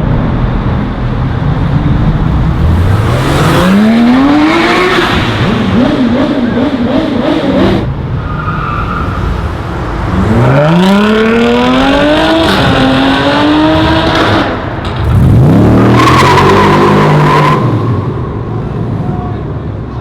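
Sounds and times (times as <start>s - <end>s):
car engine accelerating hard: 1.9s - 19.0s.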